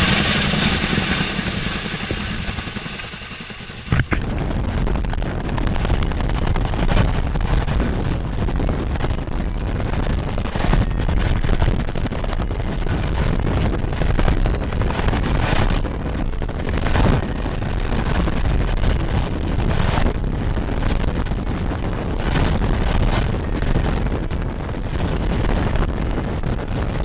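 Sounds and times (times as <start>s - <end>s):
helicopter rotor and turbine noise: 0.0s - 27.0s.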